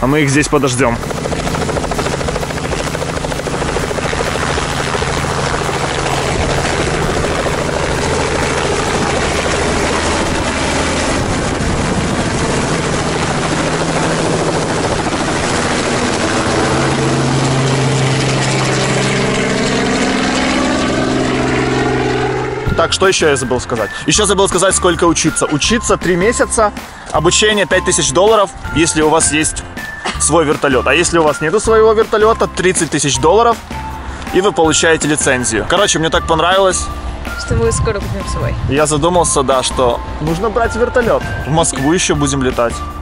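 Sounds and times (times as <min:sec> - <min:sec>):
helicopter rotor and engine: 0:00.0 - 0:43.0.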